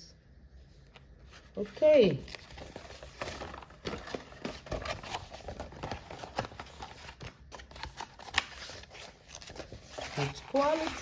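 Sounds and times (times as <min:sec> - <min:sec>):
paper pages rustling and turning: 0:00.6 - 0:11.0.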